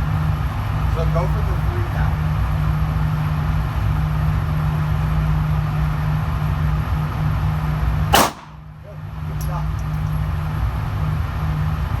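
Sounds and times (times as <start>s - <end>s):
ventilation fans humming: 0.0s - 12.0s.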